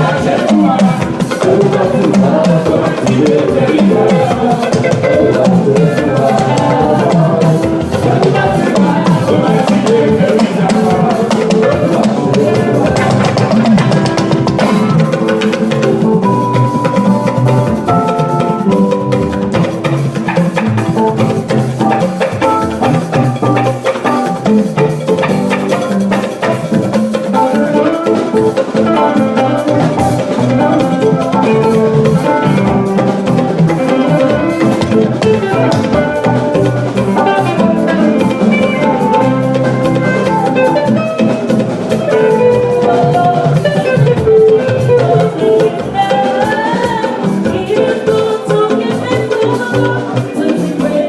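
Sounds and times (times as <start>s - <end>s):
drum kit beat: 0.0s - 51.0s
live band playing instrumental: 0.0s - 51.0s.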